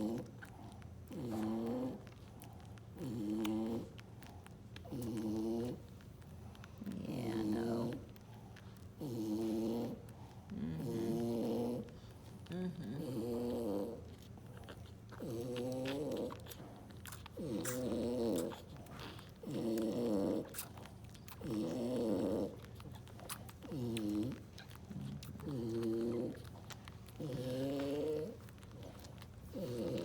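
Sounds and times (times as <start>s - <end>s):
dog snoring breaths: 0.0s - 30.0s.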